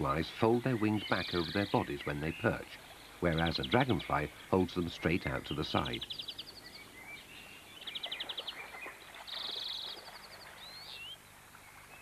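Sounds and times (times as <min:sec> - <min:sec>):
birds trilling: 0:00.0 - 0:11.2.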